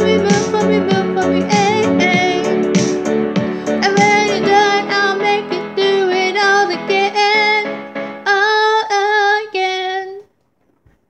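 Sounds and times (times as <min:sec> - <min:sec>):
woman singing: 0:00.0 - 0:02.9, 0:03.7 - 0:10.3
karaoke backing track: 0:00.0 - 0:10.2.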